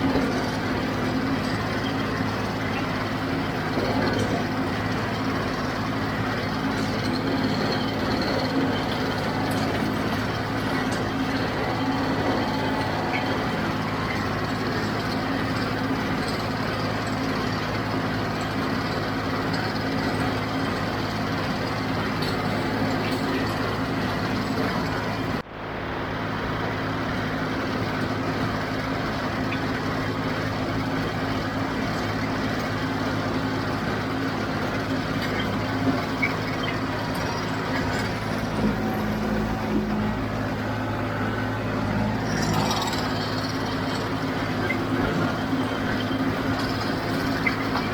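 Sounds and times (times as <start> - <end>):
diesel tractor running under load: 0.0 - 47.9.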